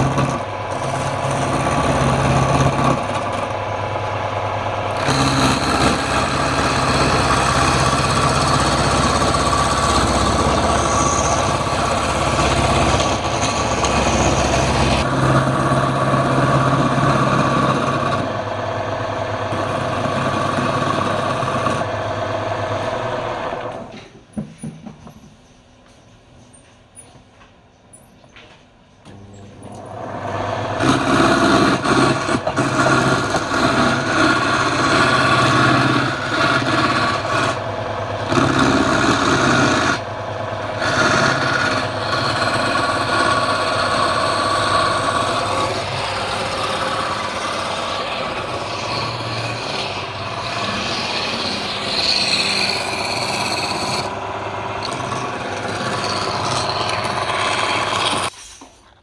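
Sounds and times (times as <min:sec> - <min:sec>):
wood lathe motor humming: 0:00.0 - 0:23.9, 0:29.7 - 0:58.3
tool scraping spinning wood: 0:00.0 - 0:25.3, 0:29.8 - 0:59.0.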